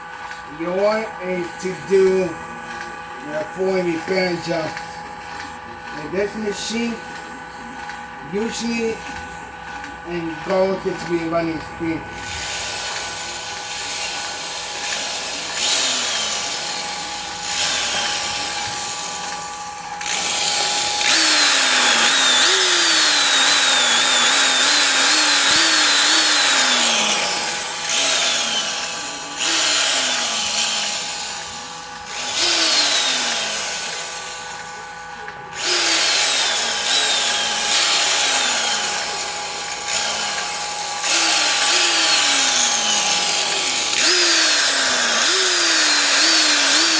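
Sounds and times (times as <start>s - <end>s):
electric drill motor whining: 0.0s - 46.9s.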